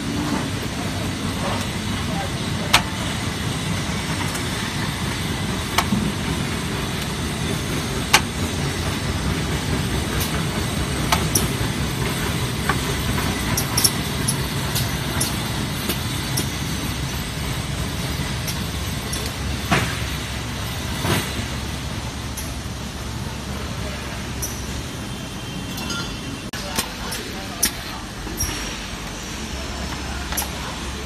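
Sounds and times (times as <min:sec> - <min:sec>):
low machinery hum: 0:00.0 - 0:31.0.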